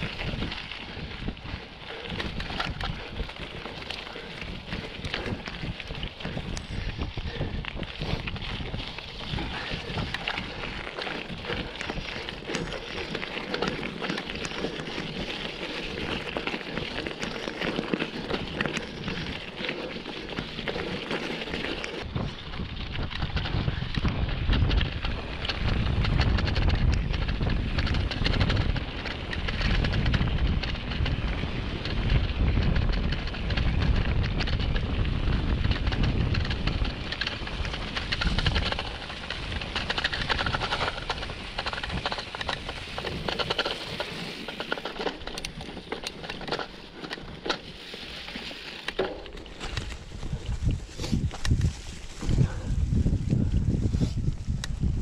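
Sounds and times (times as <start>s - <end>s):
wind buffeting microphone: 0.0s - 48.4s, 49.0s - 55.0s
bike rattling: 0.0s - 55.0s
tyres crackling over dirt: 0.0s - 55.0s.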